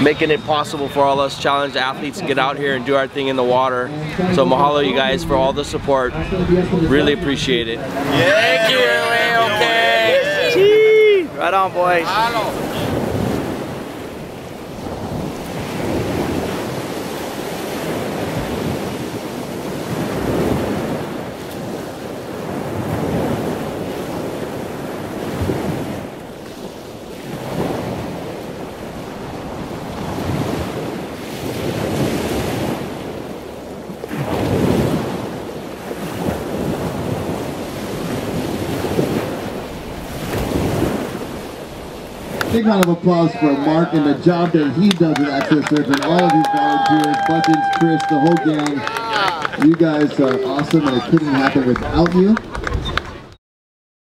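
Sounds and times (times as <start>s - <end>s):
ocean waves washing in: 0.0s - 52.6s.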